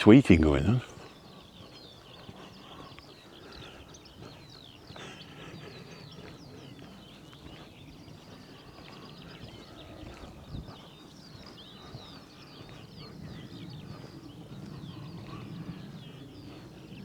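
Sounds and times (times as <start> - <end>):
songbirds twittering and chirping: 0.0 - 17.0.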